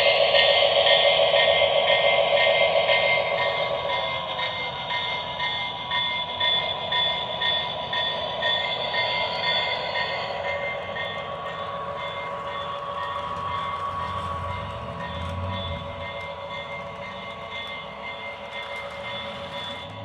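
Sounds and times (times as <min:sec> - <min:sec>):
diesel locomotive sounds from small speaker: 0:00.0 - 0:20.0.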